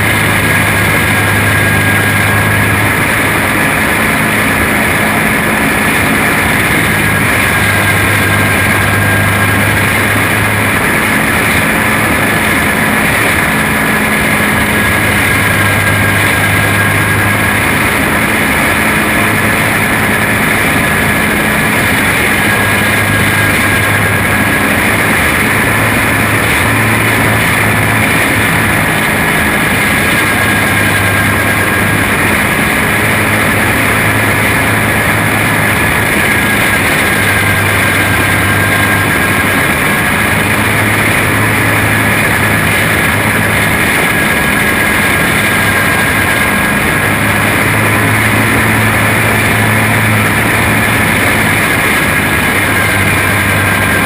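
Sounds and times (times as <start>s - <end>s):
racing kart engine droning: 0.0s - 54.0s.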